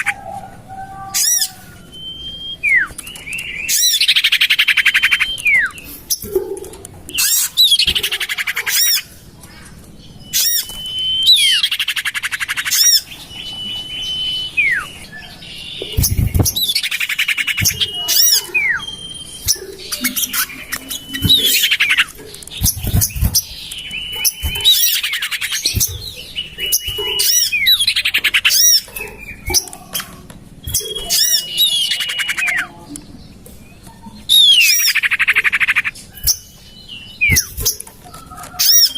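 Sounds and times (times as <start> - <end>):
bird harsh buzzy calls: 3.5 - 32.8, 34.2 - 38.9.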